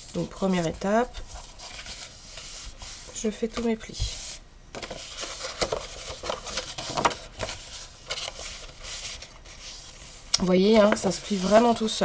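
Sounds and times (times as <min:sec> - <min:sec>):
paper rustling as folded: 0:00.0 - 0:12.0.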